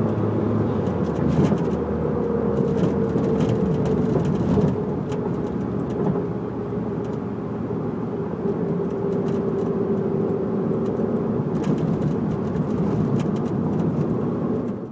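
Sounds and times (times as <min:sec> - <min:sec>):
car road noise: 0:00.0 - 0:14.9.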